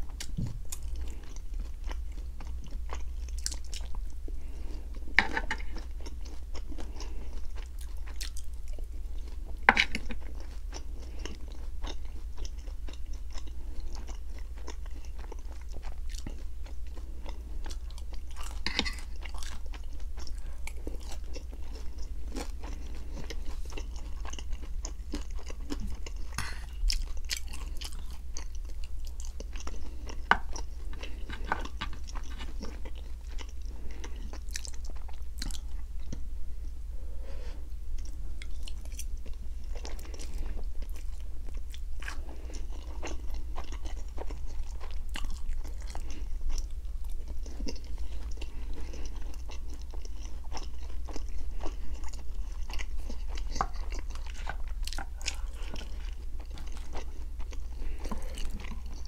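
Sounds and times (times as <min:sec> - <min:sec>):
food crunching: 0:00.0 - 0:36.2, 0:38.0 - 0:59.0
close chewing with mouth clicks: 0:00.0 - 0:36.3, 0:37.9 - 0:59.0.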